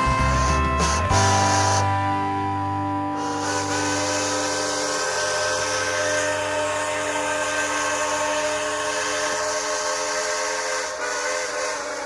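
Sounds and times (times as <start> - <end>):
train whistle blowing: 0.0 - 2.0, 3.2 - 12.0
low hum: 0.0 - 11.0.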